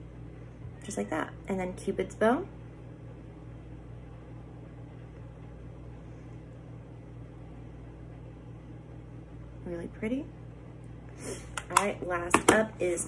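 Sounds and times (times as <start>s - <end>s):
kitchen room tone hum and hiss: 0.0s - 13.0s.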